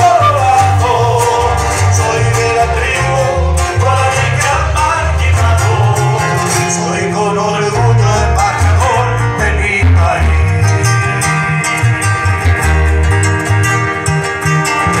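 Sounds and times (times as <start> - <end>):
live guitar band music: 0.0 - 15.0.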